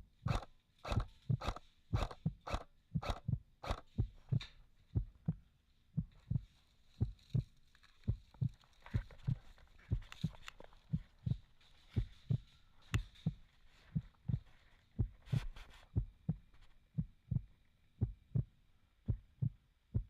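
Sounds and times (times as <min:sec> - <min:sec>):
rhythmic low thumps: 0:00.2 - 0:07.5, 0:08.1 - 0:20.0.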